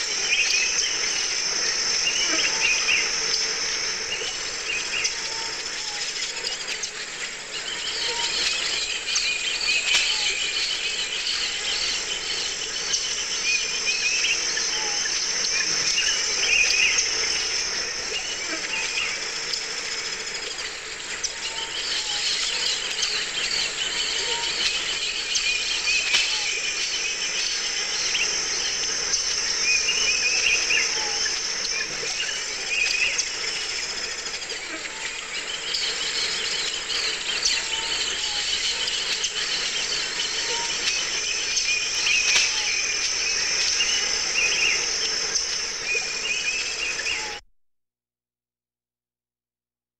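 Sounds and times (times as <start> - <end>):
bird chirps: 0.0 - 47.4
insect chorus: 0.0 - 47.4.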